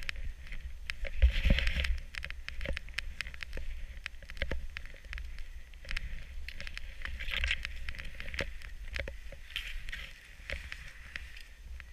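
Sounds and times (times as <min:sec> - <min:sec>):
wind rumble on microphone: 0:00.0 - 0:11.9.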